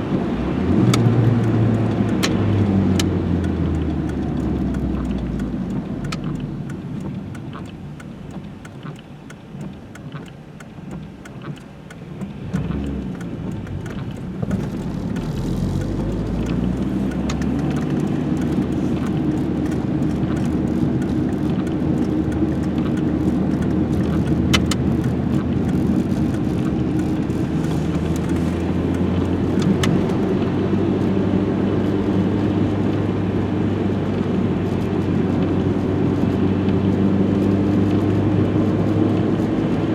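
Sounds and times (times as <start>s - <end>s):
car engine running: 0.0s - 39.8s
tyre and road noise: 0.0s - 39.9s.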